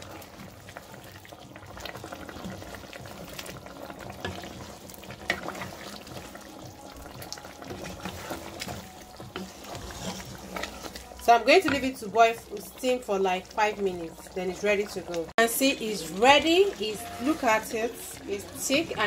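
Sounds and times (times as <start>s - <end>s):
sauce simmering with pops: 0.0s - 19.0s.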